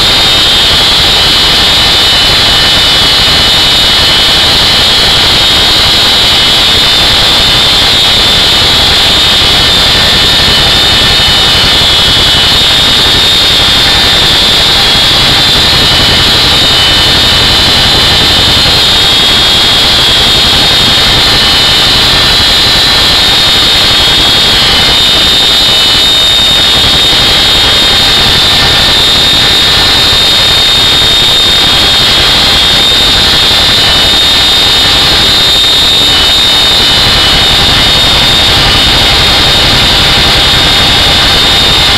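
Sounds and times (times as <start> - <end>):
helicopter engine and rotor roar: 0.0 - 41.9
helicopter high whine: 0.0 - 41.9.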